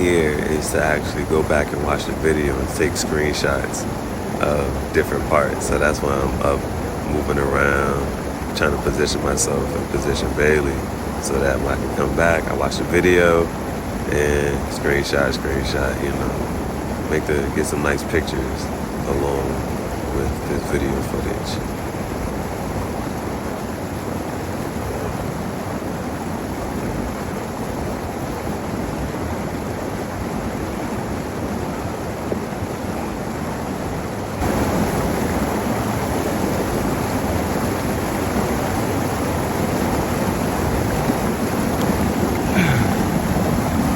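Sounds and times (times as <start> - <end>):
water rushing from a waterfall: 0.0 - 43.9.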